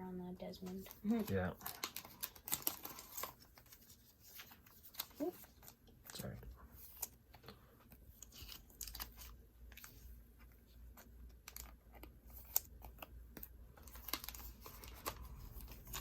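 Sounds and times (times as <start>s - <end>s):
cards and wrappers rustling: 0.4s - 16.0s.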